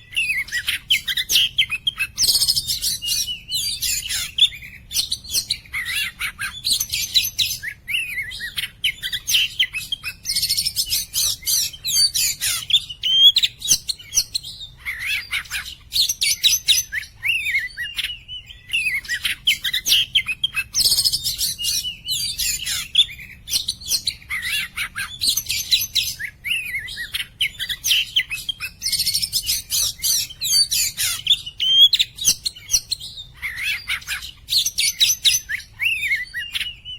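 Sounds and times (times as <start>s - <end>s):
songbird whistles chirps and trills: 0.0s - 36.9s.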